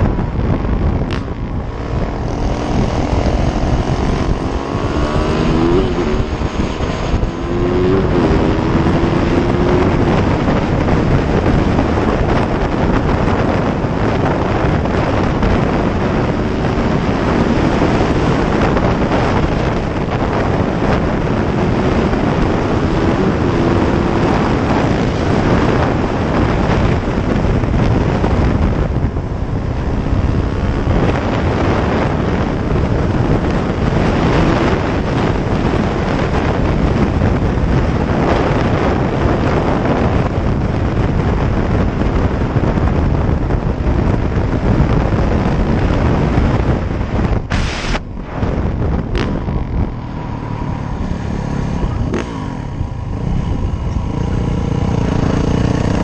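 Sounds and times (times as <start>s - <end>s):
dirt bike engine running: 0.0s - 56.0s
wind buffeting microphone: 0.0s - 56.0s.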